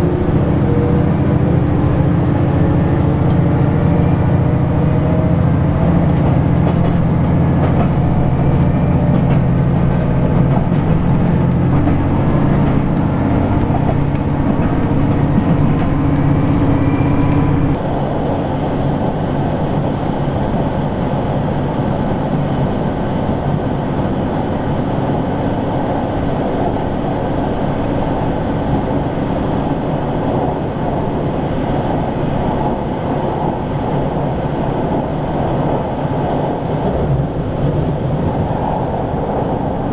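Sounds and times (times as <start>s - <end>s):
diesel train engine droning: 0.0s - 39.9s
train rushing at speed: 0.0s - 39.9s.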